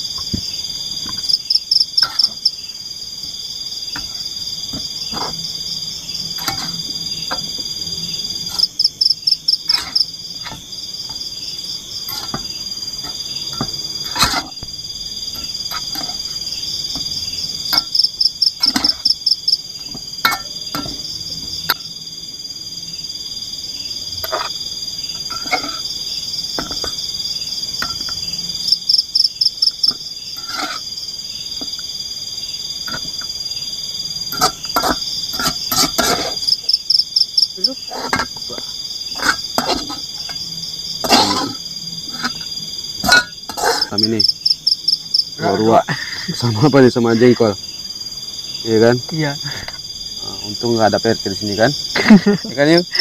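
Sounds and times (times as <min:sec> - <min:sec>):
high shrill insect trill: 0:00.0 - 0:53.0.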